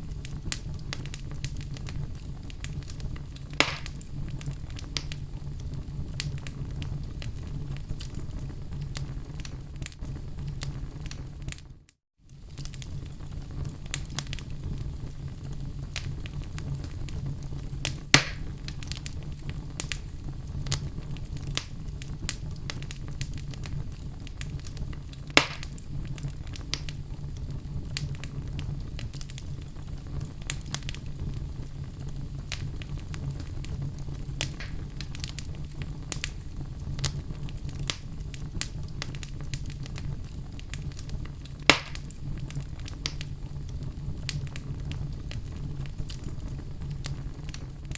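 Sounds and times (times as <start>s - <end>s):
burning wood popping: 0.0s - 47.9s
fire crackling: 0.0s - 47.9s
low rumble of flames: 0.0s - 47.9s.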